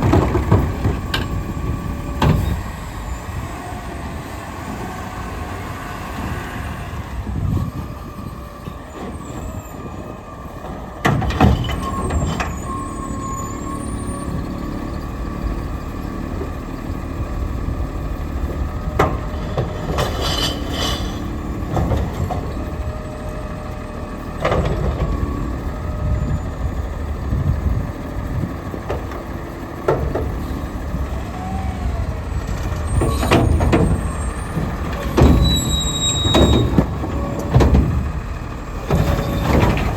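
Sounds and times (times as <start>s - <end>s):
garbage truck engine rumble: 0.0s - 39.9s.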